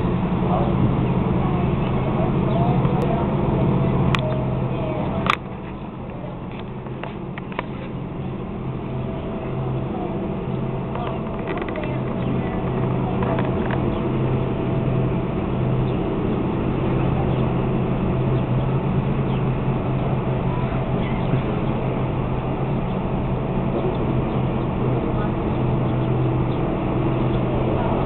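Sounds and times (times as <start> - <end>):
rushing noise: 0.0 - 28.0
ship machinery hum: 0.0 - 28.0.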